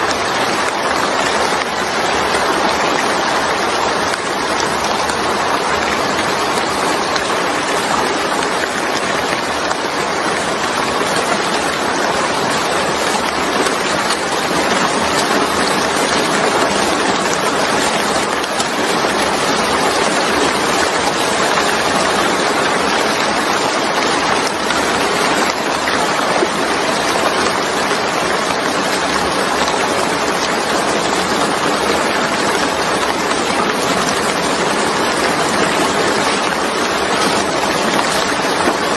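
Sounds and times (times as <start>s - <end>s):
rain falling on wet surface: 0.0s - 38.9s.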